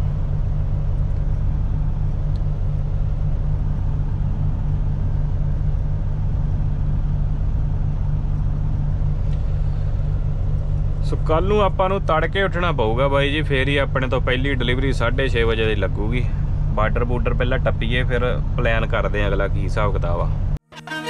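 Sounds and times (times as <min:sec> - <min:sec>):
truck diesel engine droning: 0:00.0 - 0:20.6.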